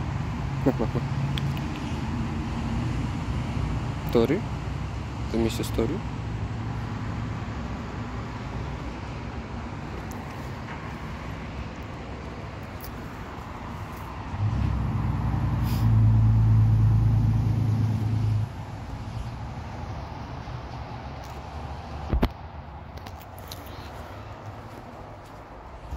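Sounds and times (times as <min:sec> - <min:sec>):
outdoor background noise: 0:00.0 - 0:25.9.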